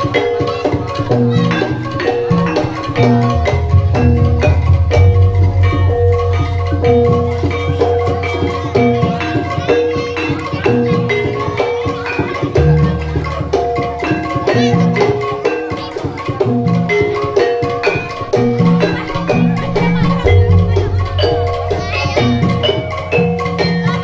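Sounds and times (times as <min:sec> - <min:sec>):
drumming: 0:00.0 - 0:24.0
tuned metal percussion: 0:00.0 - 0:24.0.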